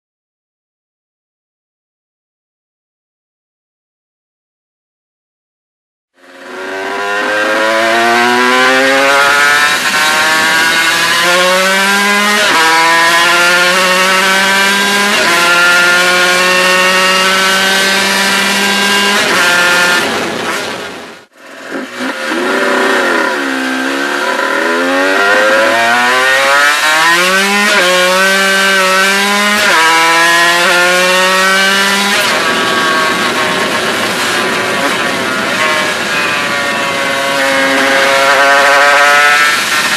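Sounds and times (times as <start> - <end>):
motorcycle engine revving: 6.2 - 39.9.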